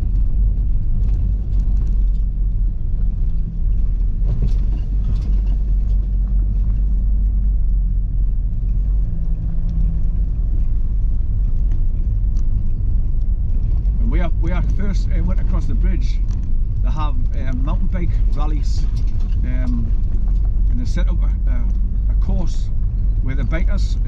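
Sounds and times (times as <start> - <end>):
car rumbling on rough track: 0.0 - 24.0
gravel ticking under tyres: 0.0 - 24.0.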